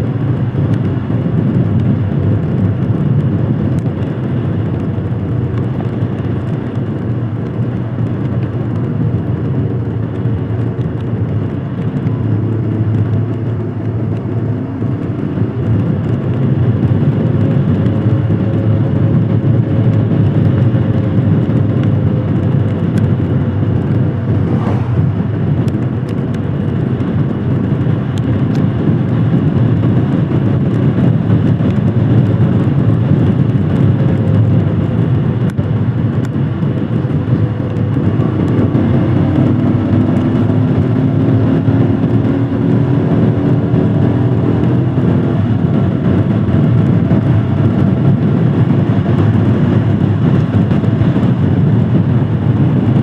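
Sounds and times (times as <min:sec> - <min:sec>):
motorcycle engine running: 0:00.0 - 0:53.0
road and wind rumble: 0:00.0 - 0:53.0.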